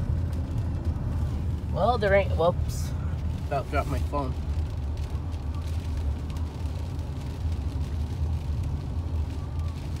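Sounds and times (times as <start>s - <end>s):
car engine and tyres rumbling: 0.0s - 10.0s
raindrops ticking on glass: 0.0s - 10.0s.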